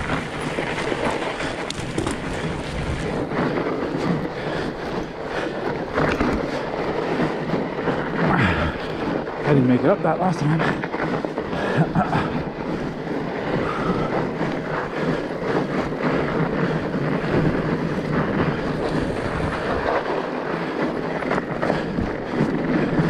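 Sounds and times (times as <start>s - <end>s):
bike rattles and knocks: 0.0s - 23.0s
bike tyres rolling on trail: 0.0s - 23.0s.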